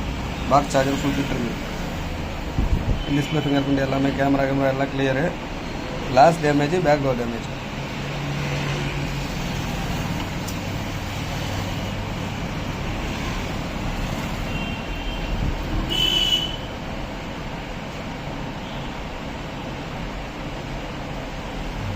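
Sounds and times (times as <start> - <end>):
road traffic noise: 0.0 - 21.9.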